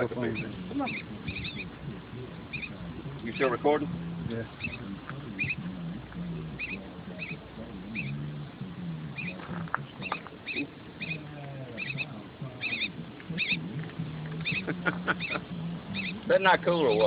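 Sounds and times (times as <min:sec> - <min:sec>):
young bird begging chirps: 0:00.0 - 0:16.3.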